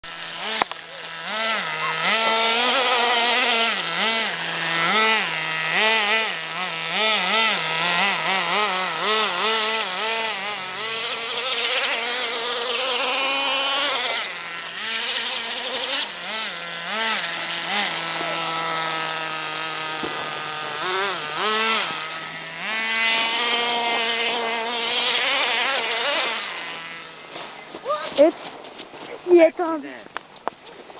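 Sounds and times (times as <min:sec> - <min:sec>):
small engine revving buzz: 0:00.0 - 0:30.9.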